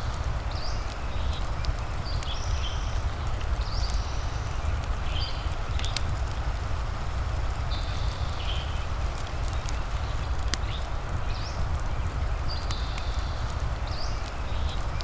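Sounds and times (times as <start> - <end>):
soft rain hiss: 0.0 - 15.0
wood fire crackling and popping: 0.0 - 15.0.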